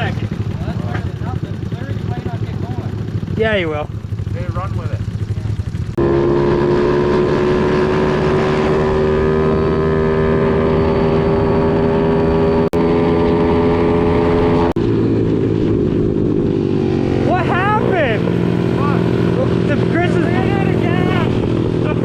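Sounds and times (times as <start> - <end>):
pit bike engine running: 0.0 - 22.0.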